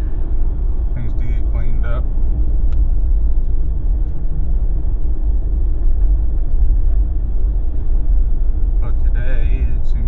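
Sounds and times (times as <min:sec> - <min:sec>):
engine rumble: 0:00.0 - 0:10.0
tyre noise on road: 0:00.0 - 0:10.0.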